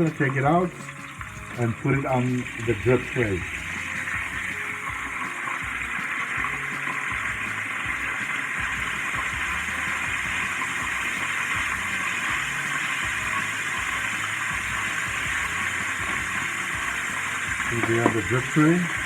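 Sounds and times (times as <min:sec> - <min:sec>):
meat frying in hot oil: 0:00.0 - 0:19.0.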